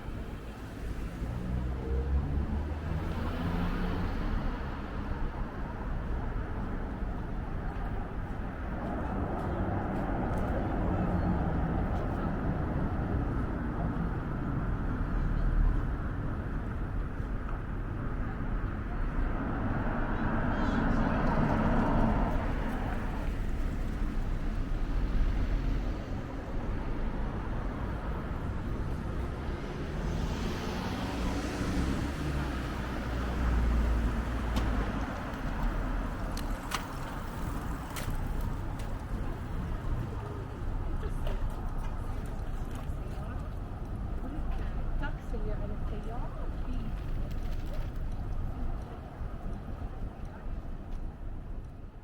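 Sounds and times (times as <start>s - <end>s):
rumble of passing cars: 0.0s - 52.0s
traffic hum: 0.0s - 52.0s.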